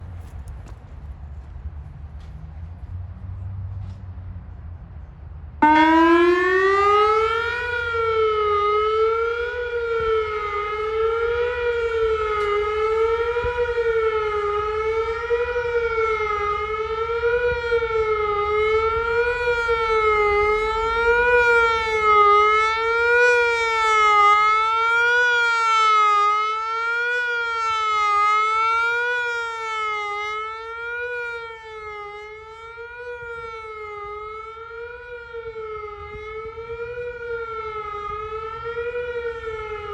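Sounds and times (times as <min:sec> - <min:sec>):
warbling warning siren: 0:05.6 - 0:39.9.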